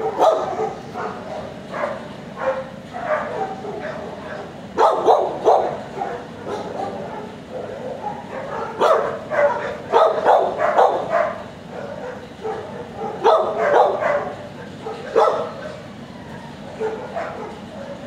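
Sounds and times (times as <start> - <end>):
dogs barking: 0.0 - 18.0.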